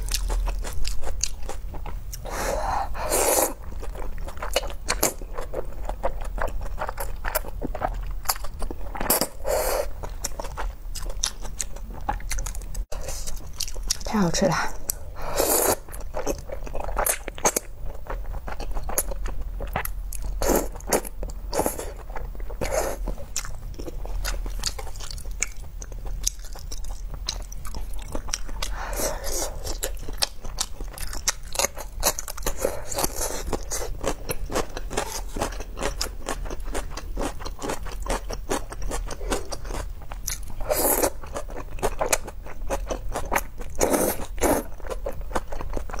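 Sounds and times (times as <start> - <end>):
chewing: 0.0 - 2.3, 3.4 - 14.1, 14.8 - 46.0.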